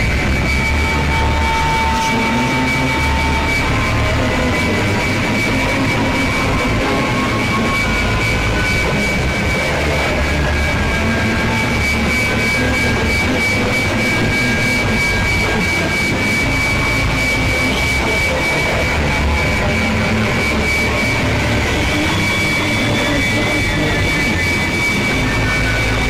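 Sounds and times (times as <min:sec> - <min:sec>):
rumbling noise wall: 0:00.0 - 0:26.0
steady high tone: 0:00.0 - 0:26.0.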